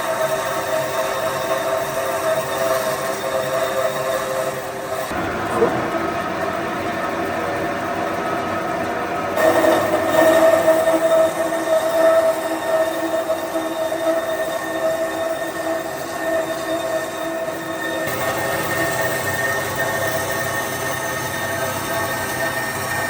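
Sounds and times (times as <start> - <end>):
power tool whining hum: 0.0 - 23.0.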